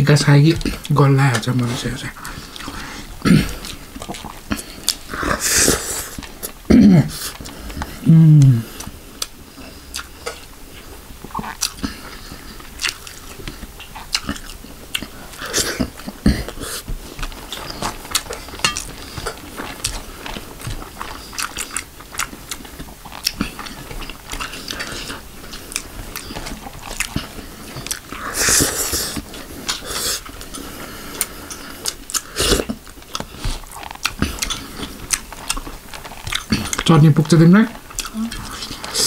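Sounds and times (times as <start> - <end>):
man chewing and lip-smacking: 2.1 - 39.0.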